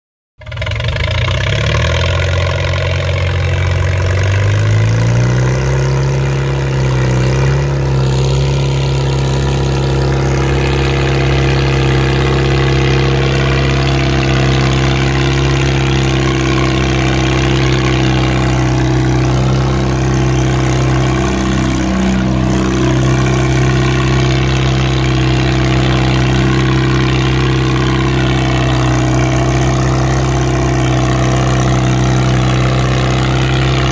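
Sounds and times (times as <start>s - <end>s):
tractor engine under load: 0.4s - 33.9s.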